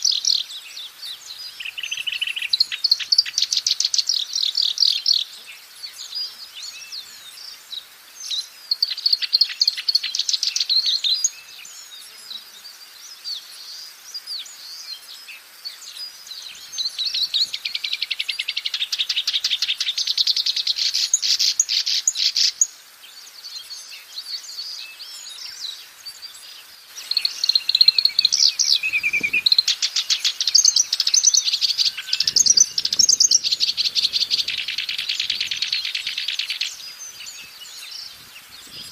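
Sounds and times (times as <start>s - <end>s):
warbler singing chattering notes: 0.0s - 7.6s, 13.6s - 38.9s.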